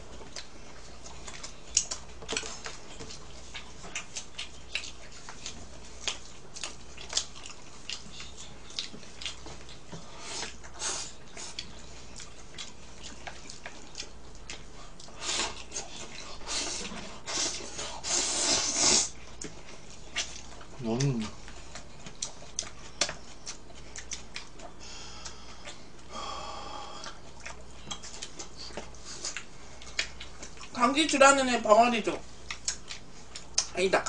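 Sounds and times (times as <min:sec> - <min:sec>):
person chewing: 0:00.0 - 0:30.8, 0:32.2 - 0:33.8.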